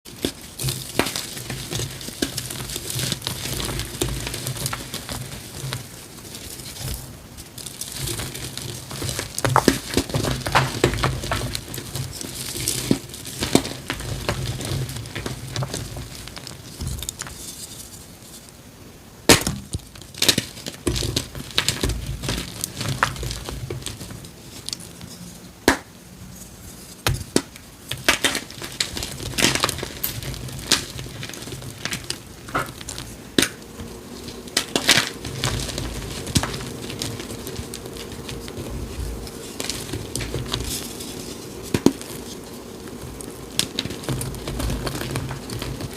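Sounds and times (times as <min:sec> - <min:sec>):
chalk blocks crunching: 0:00.0 - 0:18.5, 0:19.4 - 0:45.9.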